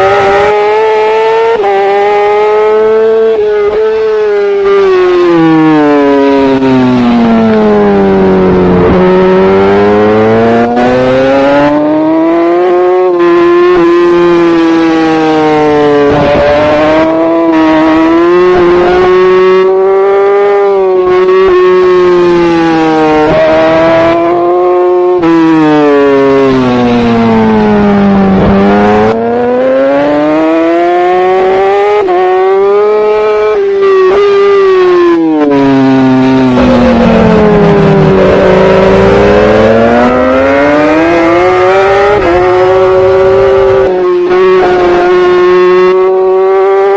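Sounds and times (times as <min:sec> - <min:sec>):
superbike engine revving: 0:00.0 - 0:46.9.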